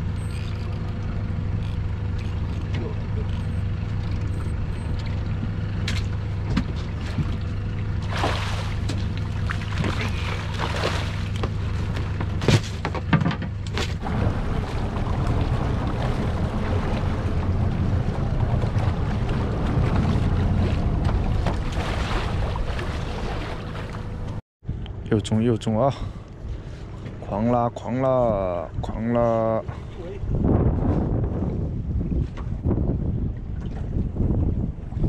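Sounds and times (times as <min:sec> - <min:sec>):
boat engine running: 0:00.0 - 0:35.0
water: 0:00.0 - 0:35.0
wind: 0:00.0 - 0:35.0.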